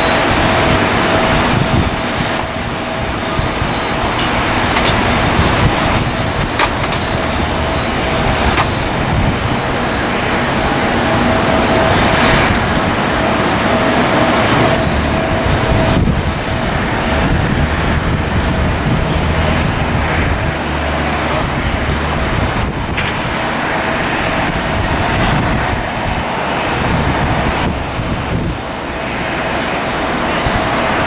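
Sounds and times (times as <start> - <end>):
jet engines whining: 0.0 - 31.0
wind noise on microphone: 0.0 - 31.0.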